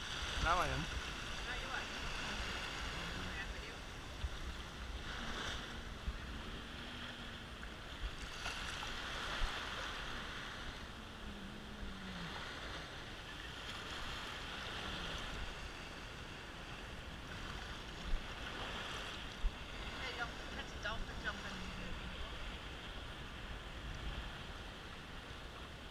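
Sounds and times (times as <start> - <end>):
small waves washing: 0.0 - 25.9.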